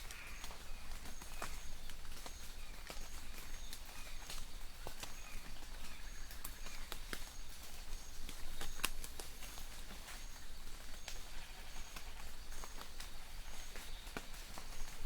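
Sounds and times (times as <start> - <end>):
raindrops ticking on leaves: 0.0 - 15.0
soft rain hiss: 0.0 - 15.0.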